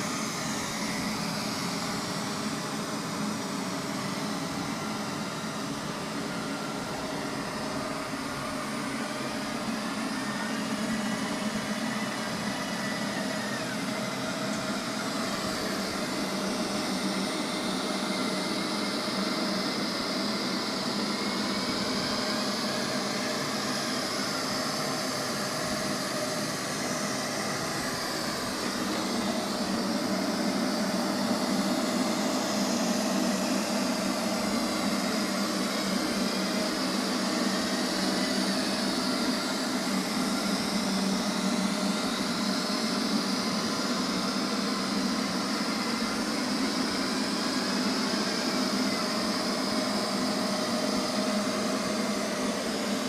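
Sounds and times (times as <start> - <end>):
robot vacuum whirring: 0.0 - 53.0.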